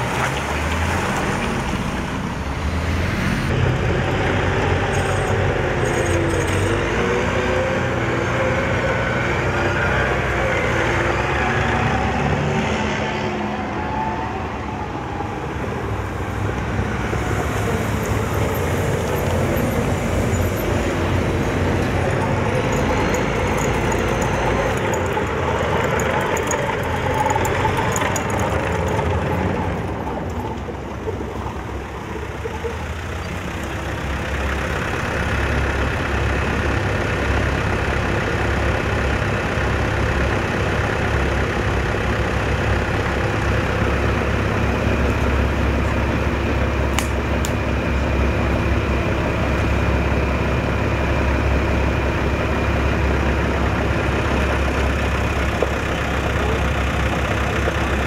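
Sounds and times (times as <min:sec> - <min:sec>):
armoured vehicle engine droning: 0:00.0 - 0:58.0.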